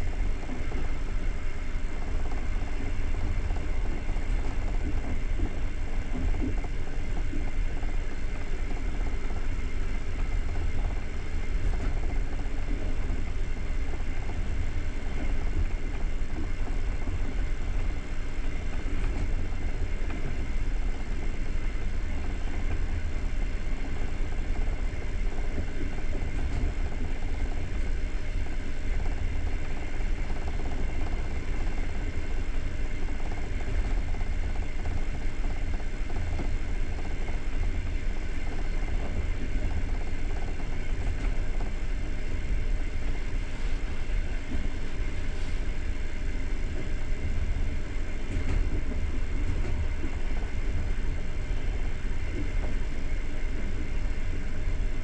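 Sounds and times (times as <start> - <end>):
hiss of train running noise: 0.0 - 55.0
train wheels rumbling on rails: 0.0 - 55.0.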